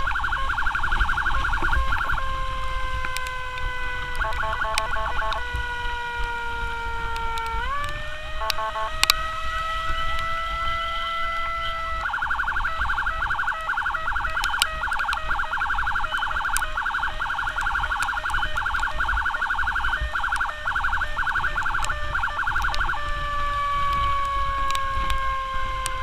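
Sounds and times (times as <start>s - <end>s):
ambulance siren: 0.0s - 26.0s
low engine and wind rumble: 0.0s - 26.0s.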